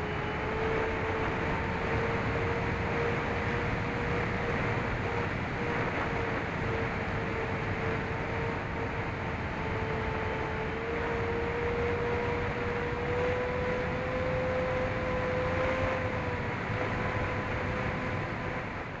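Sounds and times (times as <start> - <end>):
electric motors and propellers humming: 0.0 - 19.0.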